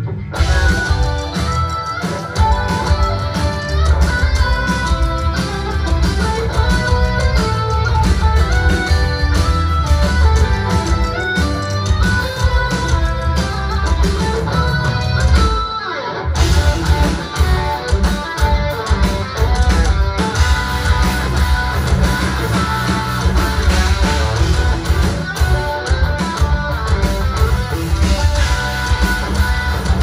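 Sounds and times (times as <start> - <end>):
progressive metal band playing: 0.0 - 30.0.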